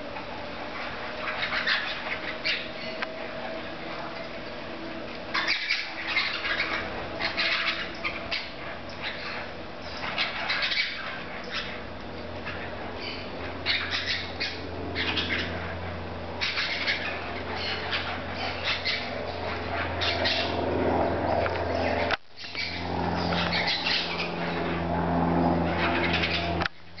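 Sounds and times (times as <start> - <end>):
parakeets chirping: 0.0 - 27.0
steady low hum: 0.0 - 27.0.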